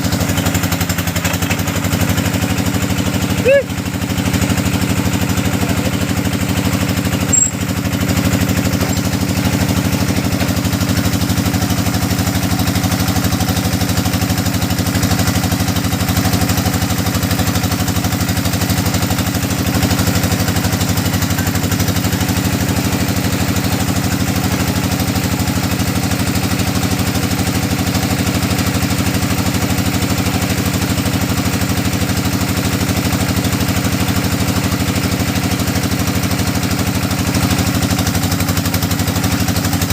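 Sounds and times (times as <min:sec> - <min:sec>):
drilling rig engine running: 0:00.0 - 0:39.9.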